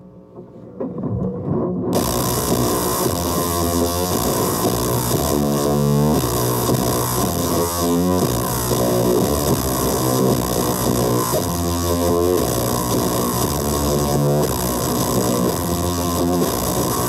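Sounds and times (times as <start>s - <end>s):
distorted electric guitar: 0.8s - 17.0s.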